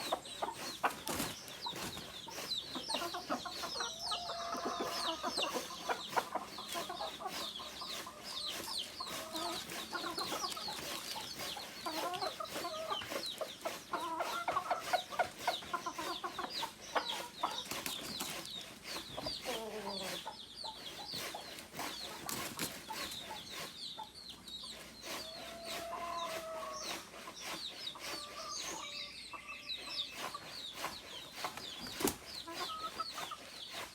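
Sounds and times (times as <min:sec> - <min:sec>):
chickens clucking and calling: 0:00.0 - 0:33.9.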